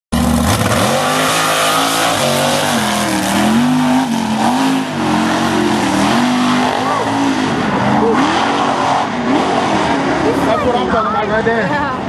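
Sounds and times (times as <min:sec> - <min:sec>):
truck engine revving: 0:00.1 - 0:12.0.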